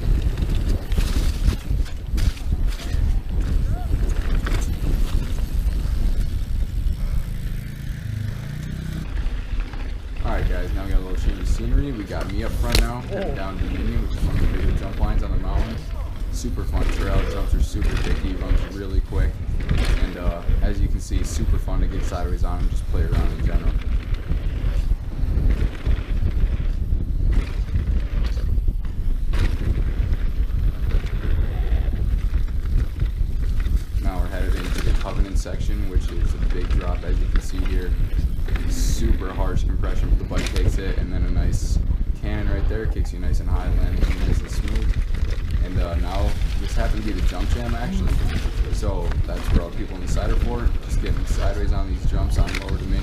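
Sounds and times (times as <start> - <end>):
bike rattling over bumps: 0.0 - 53.0
bike tyres rumbling on dirt: 0.0 - 53.0
wind buffeting microphone: 0.0 - 53.0.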